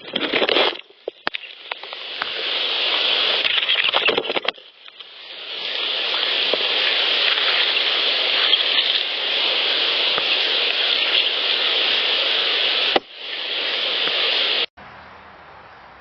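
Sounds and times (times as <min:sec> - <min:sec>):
steady hiss: 0:00.3 - 0:14.7.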